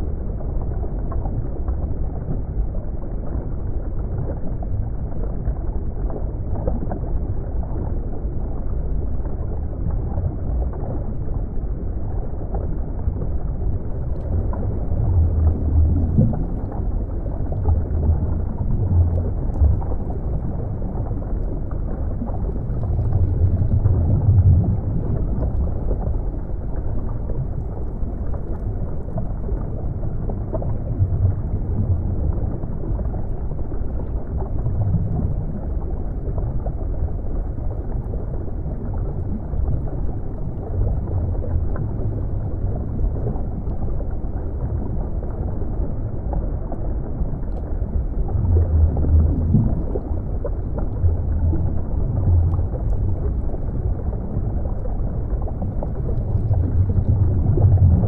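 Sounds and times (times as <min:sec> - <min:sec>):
underwater rumble of moving water: 0:00.0 - 0:58.0.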